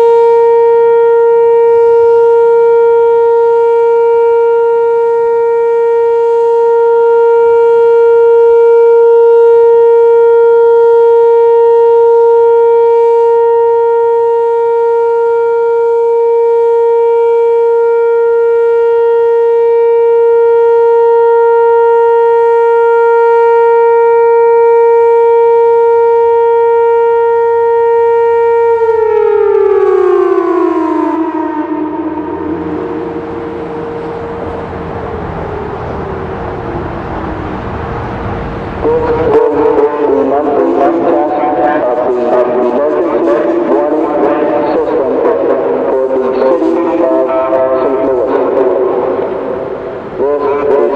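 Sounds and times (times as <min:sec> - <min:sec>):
warning siren steady tone: 0:00.0 - 0:50.9.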